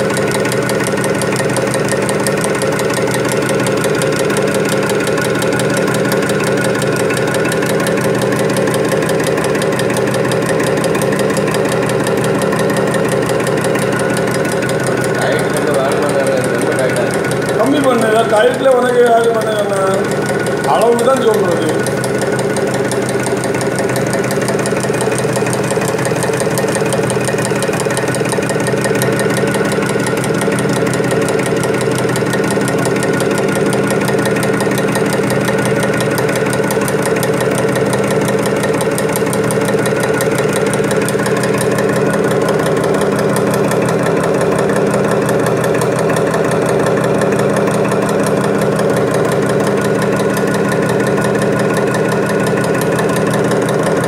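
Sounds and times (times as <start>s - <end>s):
press working at fast rhythm: 0.0s - 54.0s
motor drone: 1.1s - 54.0s.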